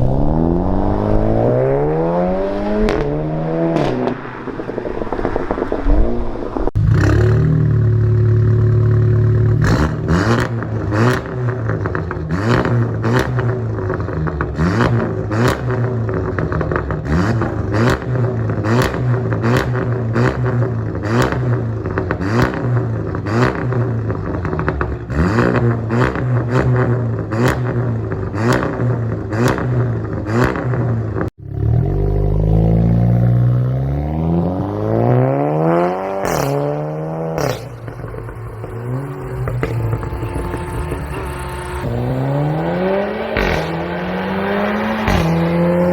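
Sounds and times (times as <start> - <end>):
car engine droning: 0.0 - 45.9
exhaust cracks: 2.7 - 33.9, 35.7 - 45.9.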